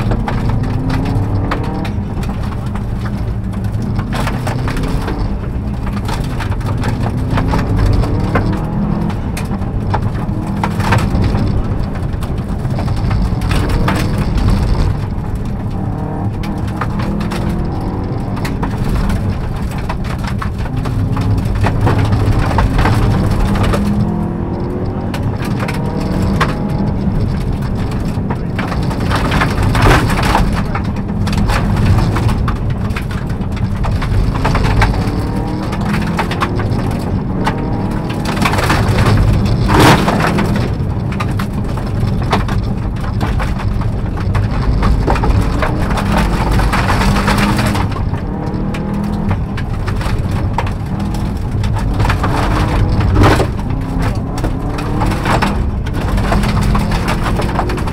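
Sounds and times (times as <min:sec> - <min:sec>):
gravel rattling against car underside: 0:00.0 - 0:57.9
heavy road rumble: 0:00.0 - 0:57.9
rally car engine revving: 0:00.0 - 0:57.9.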